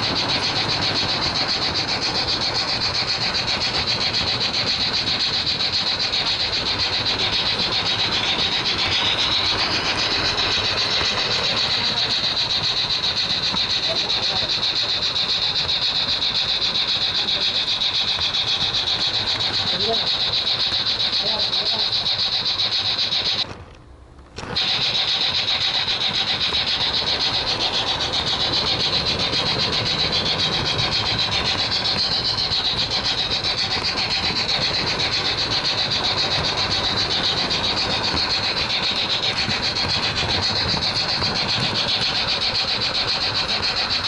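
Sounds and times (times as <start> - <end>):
model train wheels rattling on rails: 0.0 - 44.0.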